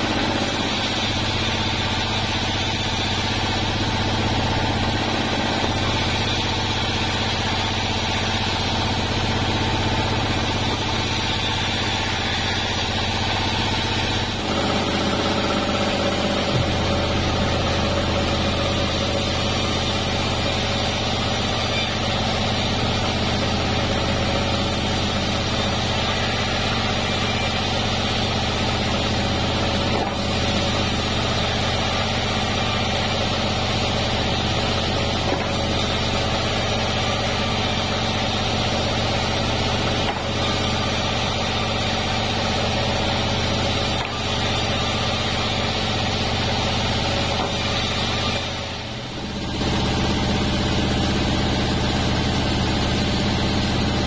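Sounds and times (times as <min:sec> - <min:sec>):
band saw cutting log: 0:00.0 - 0:54.0.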